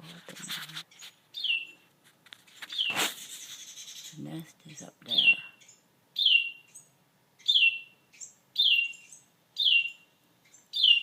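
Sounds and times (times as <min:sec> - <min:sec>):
high bird chirps: 0:00.9 - 0:01.8, 0:02.5 - 0:11.0.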